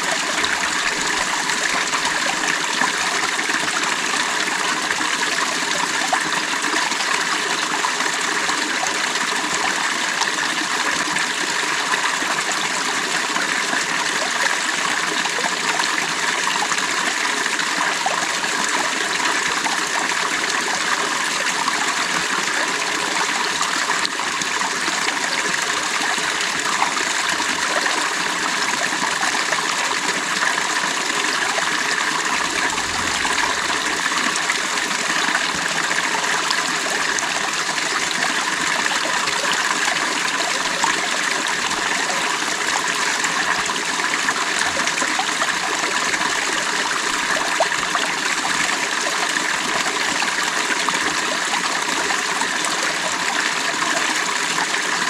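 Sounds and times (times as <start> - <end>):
creek water babbling: 0.0 - 55.0.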